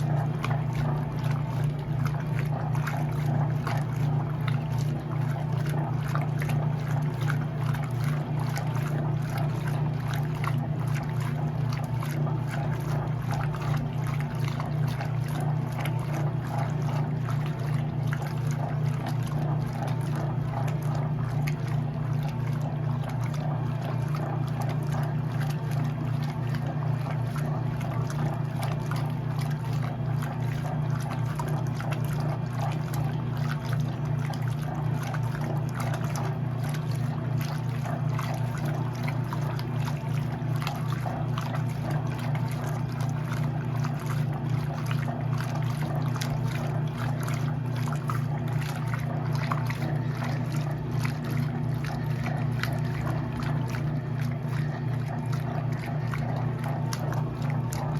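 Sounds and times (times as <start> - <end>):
washing machine motor hum: 0.0 - 57.9
water sloshing and trickling: 0.0 - 57.9.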